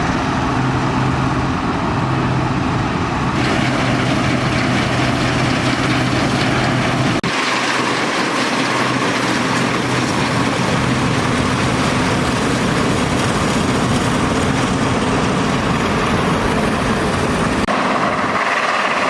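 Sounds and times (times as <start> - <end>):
combine working noise: 0.0 - 19.0
diesel engine running: 0.0 - 19.0.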